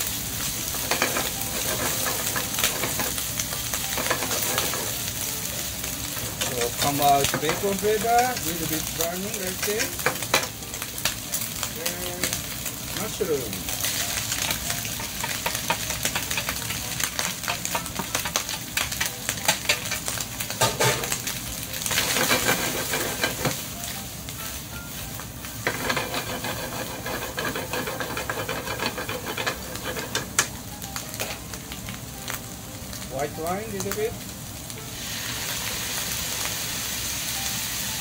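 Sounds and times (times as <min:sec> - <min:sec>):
bacon sizzling in frying pan: 0:00.0 - 0:38.0.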